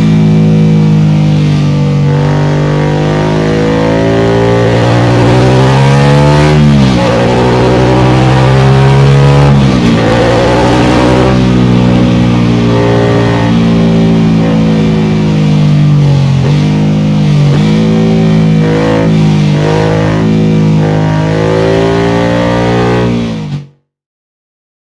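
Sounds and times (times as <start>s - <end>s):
motorcycle engine running: 0.0s - 23.8s.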